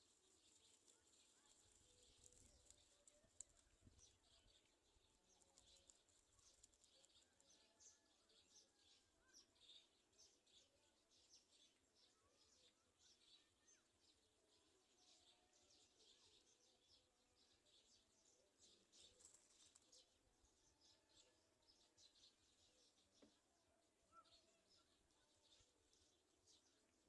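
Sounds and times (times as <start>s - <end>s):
faint high bird chirps: 0.0s - 27.0s.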